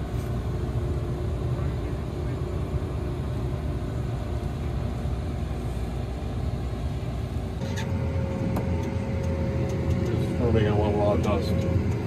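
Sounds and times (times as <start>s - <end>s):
farm machinery engine rumbling: 0.0s - 12.0s
steady whine: 0.0s - 12.0s.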